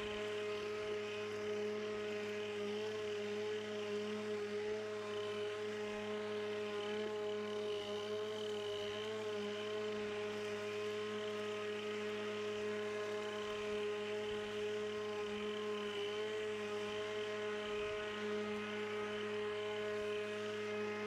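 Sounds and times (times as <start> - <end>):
lawnmower motor whine: 0.0 - 21.0.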